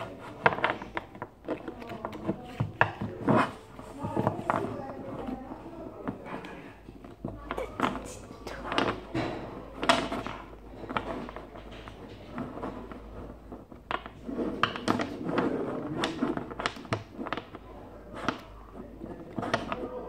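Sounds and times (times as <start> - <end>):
cards rustling: 0.0 - 20.0.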